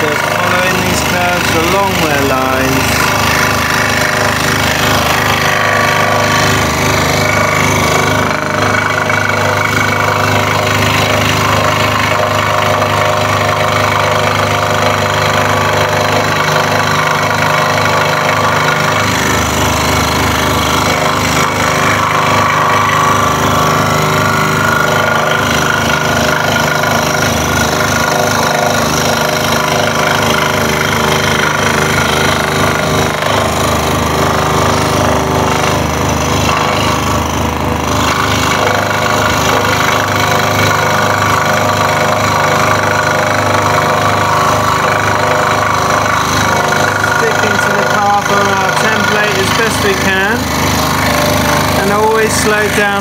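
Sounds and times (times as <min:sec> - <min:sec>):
scroll saw cutting wood: 0:00.0 - 0:53.0.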